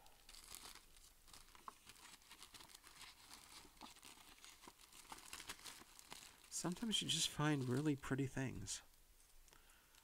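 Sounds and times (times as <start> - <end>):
plastic zip bag crinkling: 0.0 - 8.4.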